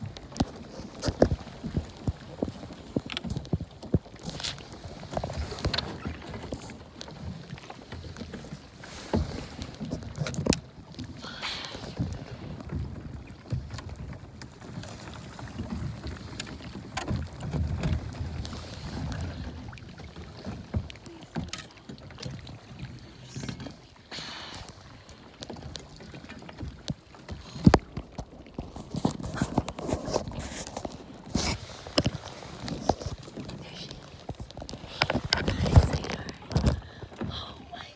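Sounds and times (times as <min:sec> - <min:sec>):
paddle strokes splashing in water: 0:00.0 - 0:37.9.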